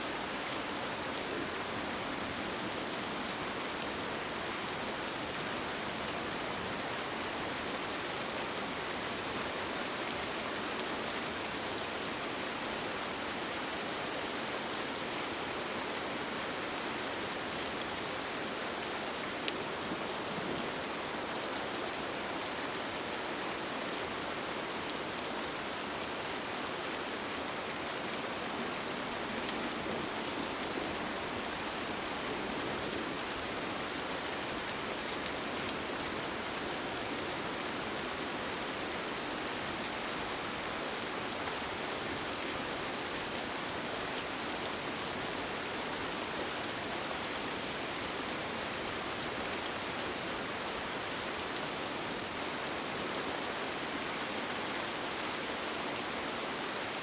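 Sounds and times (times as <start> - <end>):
rain on a tent: 0.0 - 57.0.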